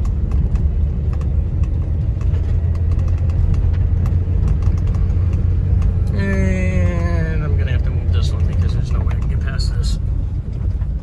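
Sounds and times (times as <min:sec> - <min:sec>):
car engine and tyres rumbling: 0:00.0 - 0:11.0
gravel clicks and ticks: 0:00.0 - 0:11.0.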